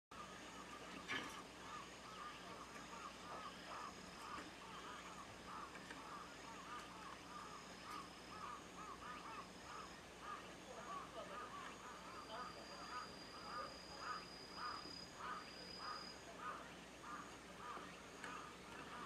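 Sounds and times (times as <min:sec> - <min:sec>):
sparrows chirping: 0:00.2 - 0:19.0.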